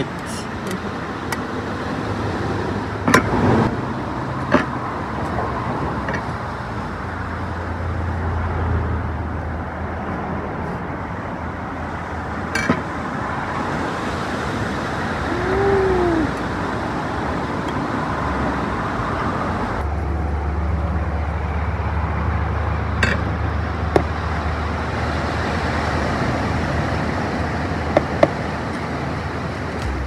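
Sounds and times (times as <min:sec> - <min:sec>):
road traffic noise: 0:00.0 - 0:30.0
vehicle low rumble: 0:00.0 - 0:30.0.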